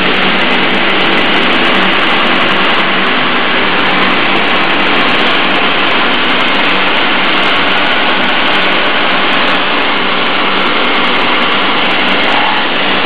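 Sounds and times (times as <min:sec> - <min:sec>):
sanding machine running: 0:00.0 - 0:13.0.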